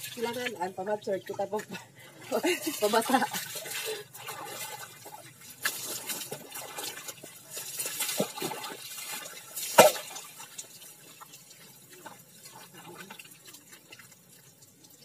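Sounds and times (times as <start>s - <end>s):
dipper scooping water from bucket: 0.0s - 15.0s
water poured and splashing: 0.0s - 15.0s.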